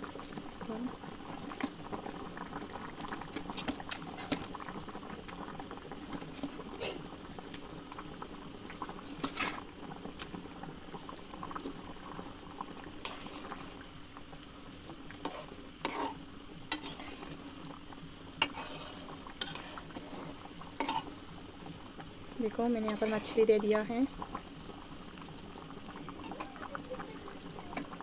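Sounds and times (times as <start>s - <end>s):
curry bubbling at a boil: 0.0s - 28.0s.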